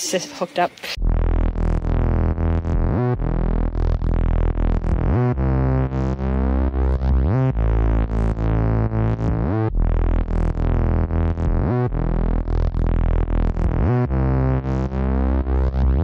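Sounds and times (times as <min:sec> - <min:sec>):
synthesizer music with beat: 0:00.9 - 0:16.0
rising pitch sweep: 0:01.0 - 0:16.0.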